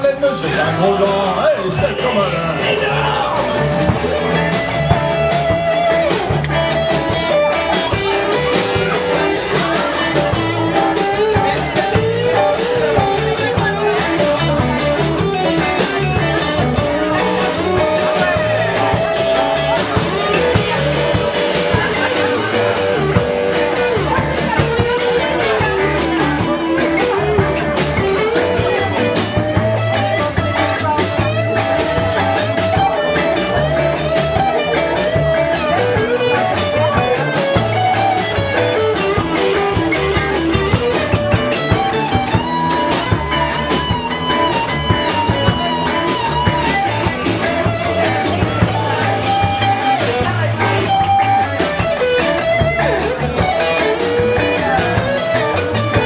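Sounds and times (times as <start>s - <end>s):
bass guitar: 0.0s - 56.0s
drum kit with cymbal hits: 0.0s - 56.0s
lead guitar melody: 0.0s - 56.0s.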